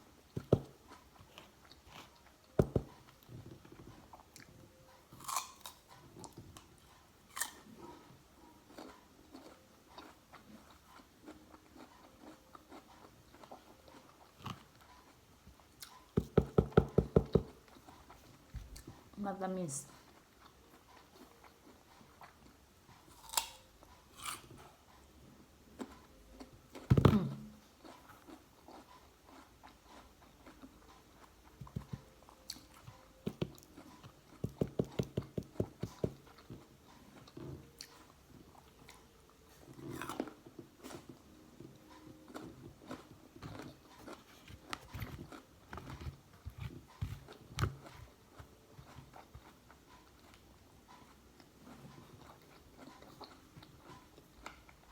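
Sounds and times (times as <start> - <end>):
chewing crunchy fruit: 0.1 - 19.2, 19.8 - 54.9.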